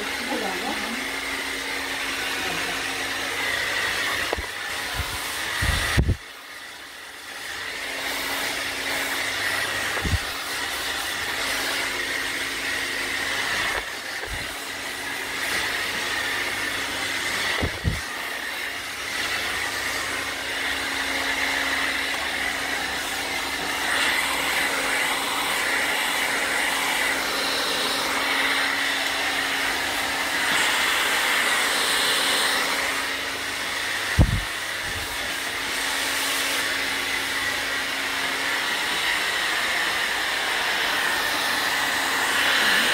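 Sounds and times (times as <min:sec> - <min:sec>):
hair dryer blowing: 0:00.0 - 0:42.9.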